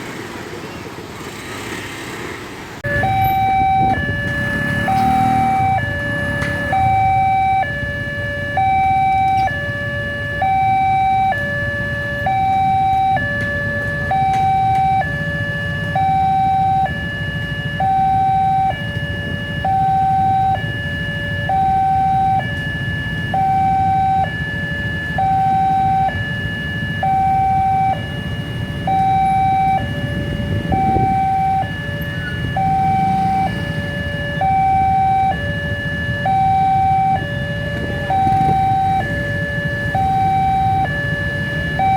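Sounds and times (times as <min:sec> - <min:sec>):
road traffic rumble: 0:00.0 - 0:41.9
level crossing two-tone alarm: 0:02.8 - 0:41.9.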